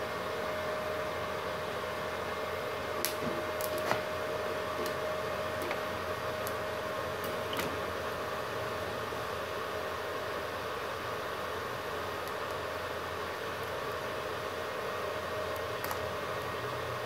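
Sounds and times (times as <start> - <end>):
welding machine humming: 0.0 - 17.0.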